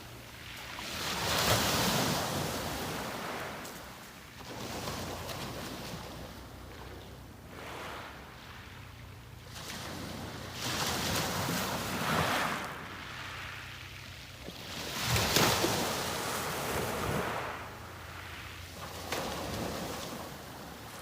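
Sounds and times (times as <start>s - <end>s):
low rumble of surf: 0.0s - 21.0s
waves breaking on a beach: 0.0s - 21.0s.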